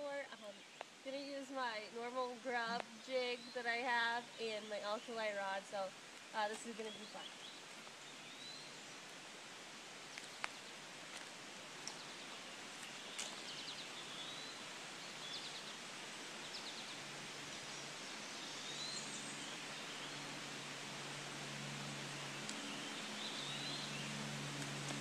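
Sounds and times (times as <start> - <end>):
birds chirping: 0.0 - 9.1, 11.8 - 20.4, 22.1 - 25.0
outdoor hiss: 0.0 - 25.0.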